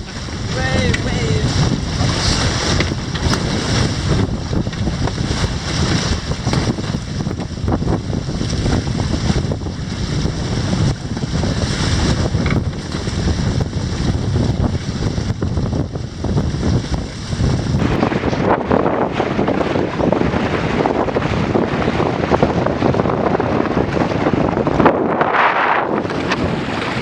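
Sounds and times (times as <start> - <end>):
water rushing past hulls: 0.0 - 27.0
wind buffeting microphone: 0.0 - 27.0.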